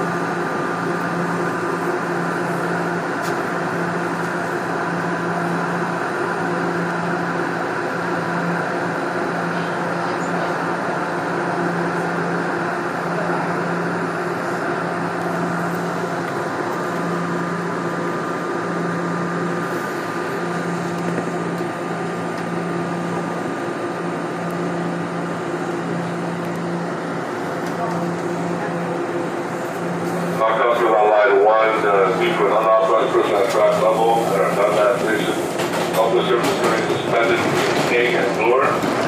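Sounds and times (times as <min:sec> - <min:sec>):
subway train hum and rushing: 0:00.0 - 0:39.0.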